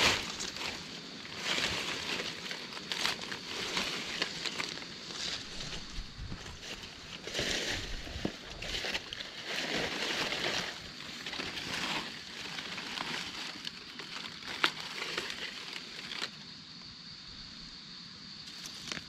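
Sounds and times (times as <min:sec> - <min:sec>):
twigs snapping: 0:00.0 - 0:16.3
dry leaves rustling and crunching: 0:00.0 - 0:16.4.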